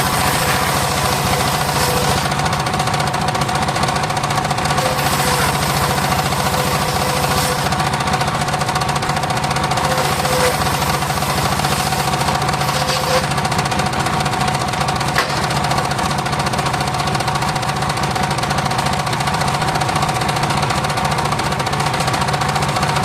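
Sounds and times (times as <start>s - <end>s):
circular saw engine running: 0.0s - 21.4s.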